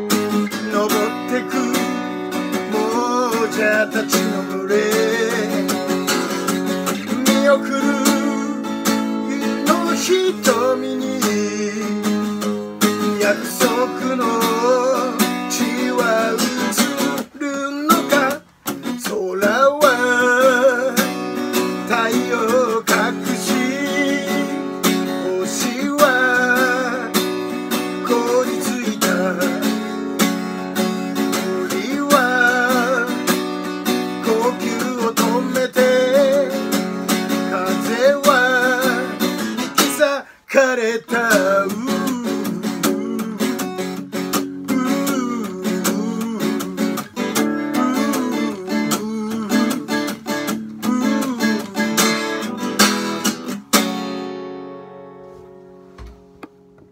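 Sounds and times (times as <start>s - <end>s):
man singing: 0.0s - 53.3s
acoustic guitar strumming: 0.0s - 56.9s.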